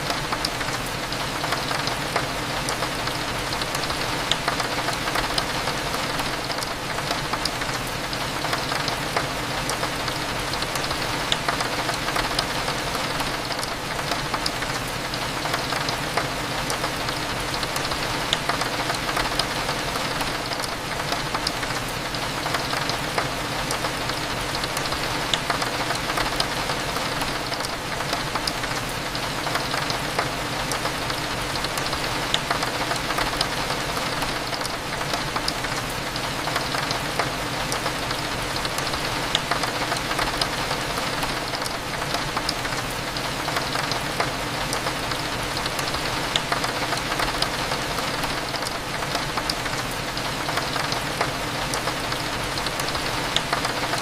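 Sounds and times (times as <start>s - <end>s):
rain ticking on window glass: 0.0s - 54.0s.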